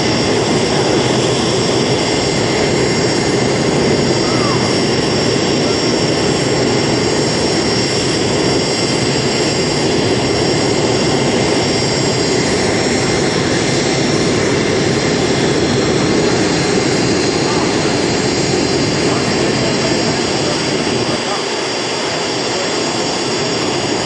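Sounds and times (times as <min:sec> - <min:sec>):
aircraft turbine engine running: 0:00.0 - 0:24.0.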